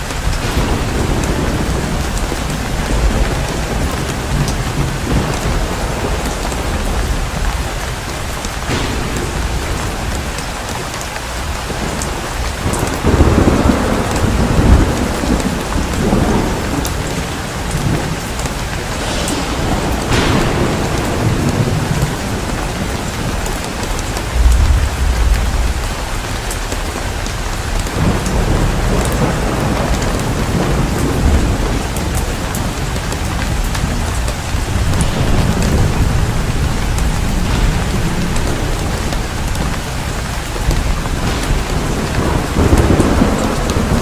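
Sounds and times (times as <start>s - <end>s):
heavy rain: 0.0s - 44.0s
thunder rumbling: 0.0s - 44.0s.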